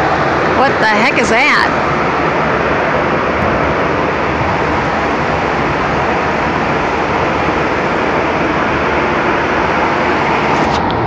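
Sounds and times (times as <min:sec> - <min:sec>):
loud steady industrial rush: 0:00.0 - 0:11.0.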